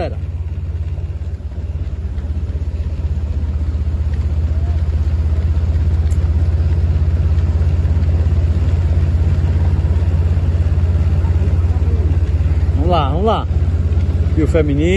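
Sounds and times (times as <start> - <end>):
vehicle engine pulsing rumble: 0.0 - 14.9.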